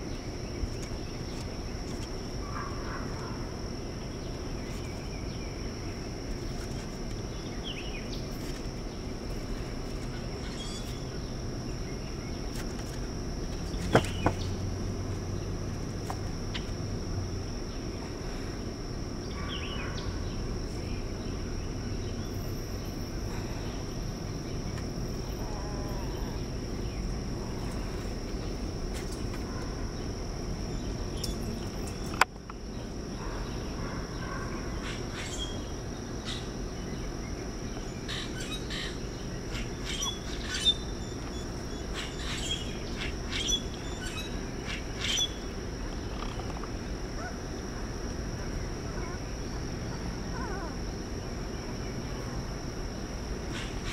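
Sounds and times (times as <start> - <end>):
insect drone: 0.0 - 53.9.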